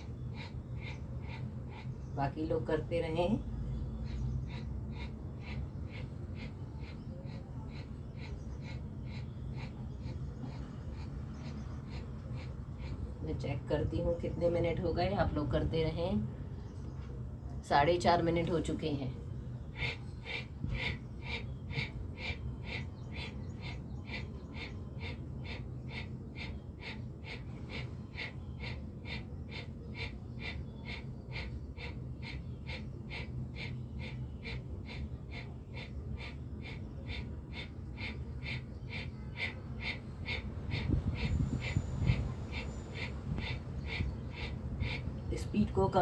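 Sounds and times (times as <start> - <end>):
rapid forceful nose breathing: 0.0 - 2.1, 3.9 - 13.2, 19.6 - 45.2.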